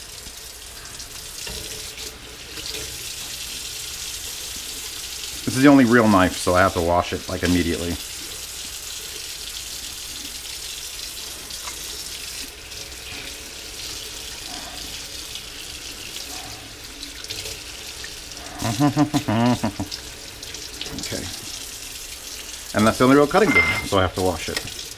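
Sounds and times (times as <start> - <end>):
knife being washed: 0.0 - 24.9.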